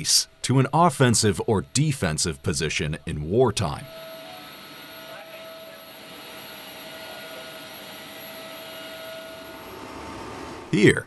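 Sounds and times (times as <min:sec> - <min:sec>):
mid-pitched machinery whine: 0:00.0 - 0:11.0.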